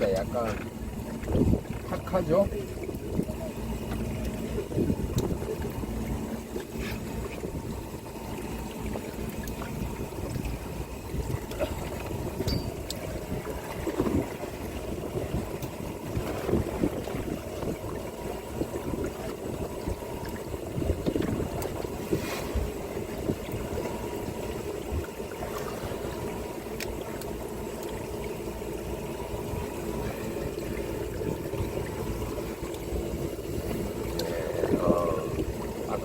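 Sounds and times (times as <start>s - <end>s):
steady low rumble: 0.0s - 36.0s
water lapping against boat hull: 0.0s - 36.0s.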